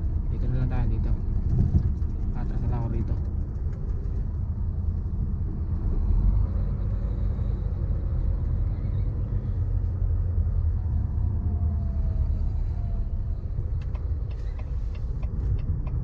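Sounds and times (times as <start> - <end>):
truck diesel engine rumble: 0.0 - 16.0.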